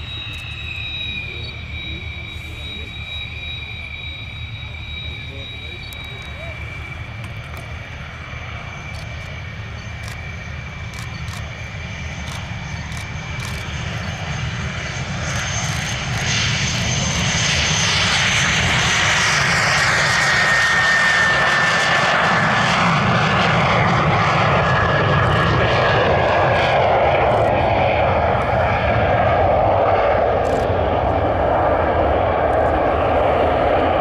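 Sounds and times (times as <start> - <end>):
jet engines roaring with high whine: 0.0 - 34.0.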